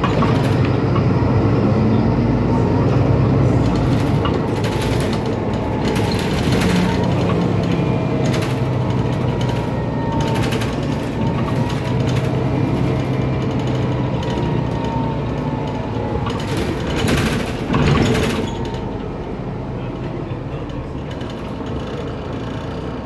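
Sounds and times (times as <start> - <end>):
bus diesel engine hum: 0.0 - 23.0.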